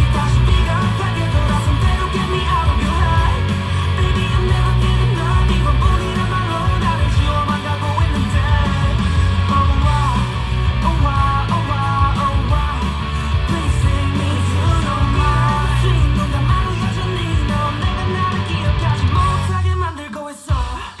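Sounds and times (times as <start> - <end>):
heavy bass line: 0.0 - 19.9
electric guitar: 0.0 - 21.0.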